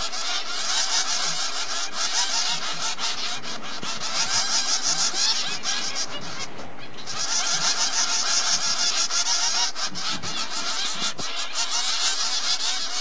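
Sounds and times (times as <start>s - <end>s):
nestlings begging chittering: 0.0s - 13.0s.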